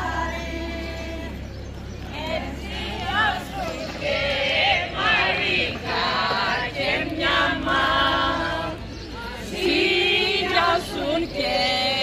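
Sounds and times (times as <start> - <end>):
group singing folk song: 0.0 - 12.0.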